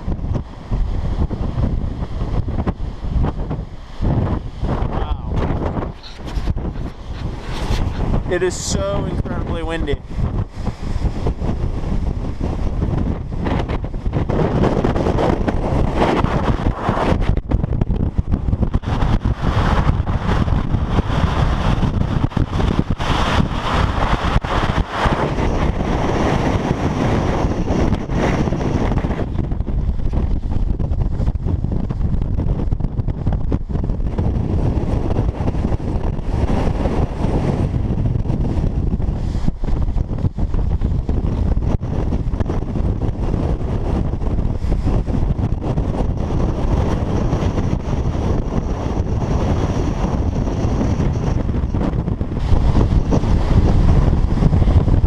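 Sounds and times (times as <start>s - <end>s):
gusty wind buffeting microphone: 0.0s - 55.0s.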